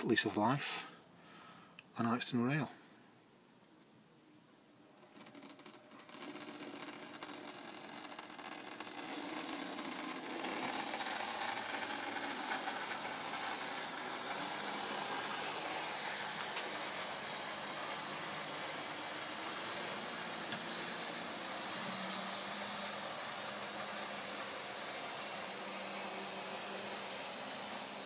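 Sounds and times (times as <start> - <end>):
model train motor whirring: 5.1 - 28.0
wheels running on rails: 5.1 - 28.0.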